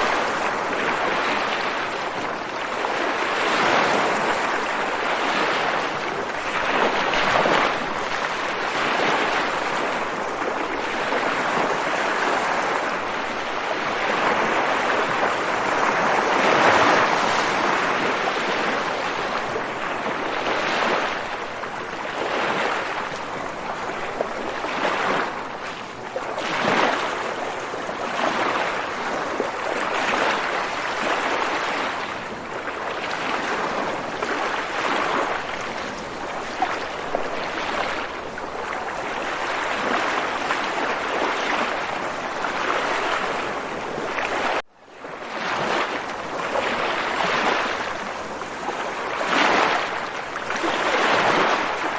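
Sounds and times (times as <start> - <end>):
ocean waves breaking: 0.0 - 51.9.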